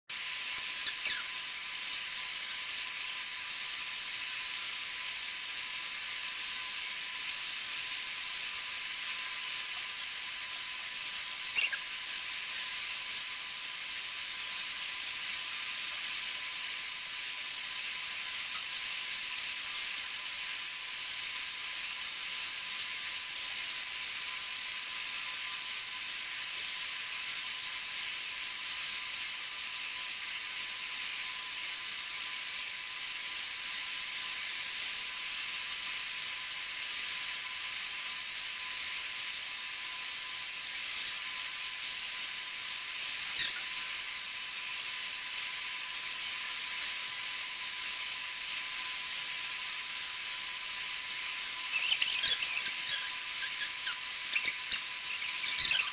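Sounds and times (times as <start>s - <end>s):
high-pitched hiss: 0.1s - 55.9s.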